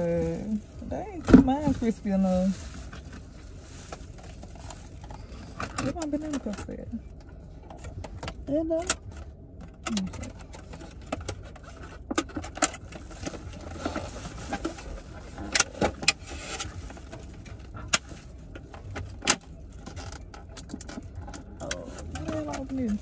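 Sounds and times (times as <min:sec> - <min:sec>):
car interior hum: 0:00.0 - 0:23.0.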